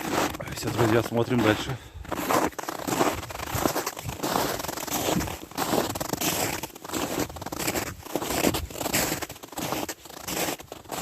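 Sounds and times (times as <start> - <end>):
footsteps crunching on frozen ground: 0.0 - 11.0.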